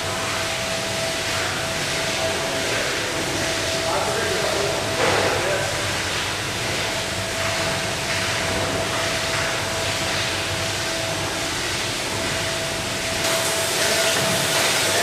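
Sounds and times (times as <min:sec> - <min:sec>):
processing line machinery hiss and rumble: 0:00.0 - 0:15.0
steady machinery hum: 0:00.0 - 0:15.0.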